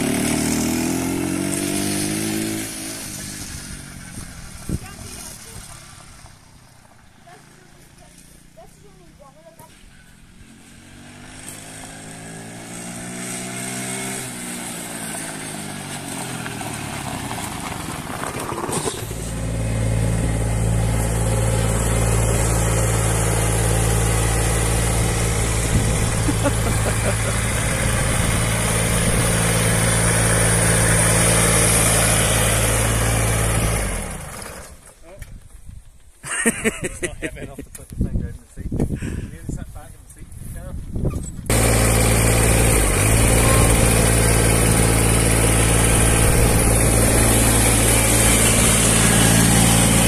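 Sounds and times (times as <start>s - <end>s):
distant small vehicle engine: 0.0s - 35.2s, 41.2s - 50.0s
ride-on mower diesel engine: 0.0s - 35.6s, 41.3s - 50.0s.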